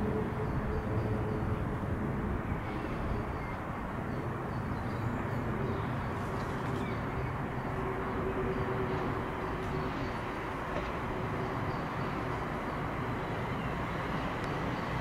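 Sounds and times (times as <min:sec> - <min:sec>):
electric train rumble and hum: 0:00.0 - 0:15.0.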